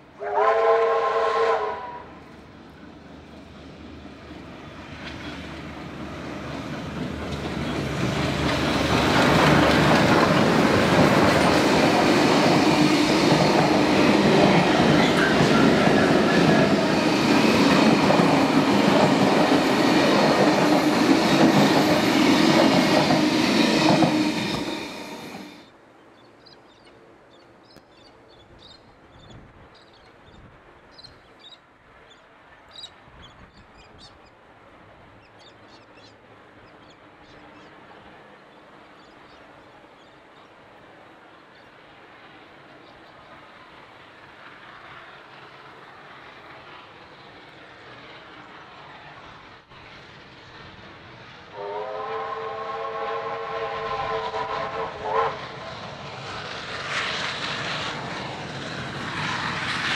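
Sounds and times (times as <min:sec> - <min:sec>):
steam train wheels rolling past: 0:00.0 - 0:59.9.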